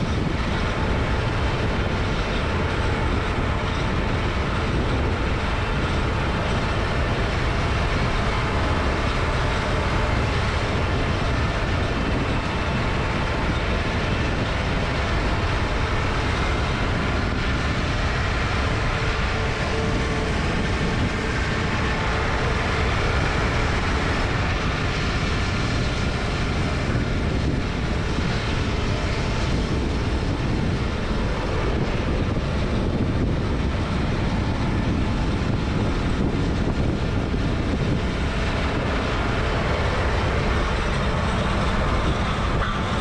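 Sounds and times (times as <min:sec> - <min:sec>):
diesel machinery running: 0:00.0 - 0:43.0.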